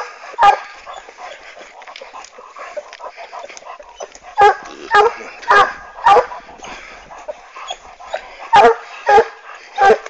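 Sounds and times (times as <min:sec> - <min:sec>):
dog barking: 0:00.0 - 0:01.0, 0:02.6 - 0:10.0
dogs yipping and whining: 0:00.0 - 0:10.0.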